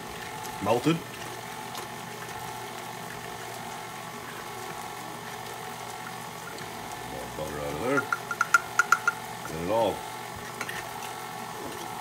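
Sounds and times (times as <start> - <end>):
stand mixer running: 0.0 - 12.0.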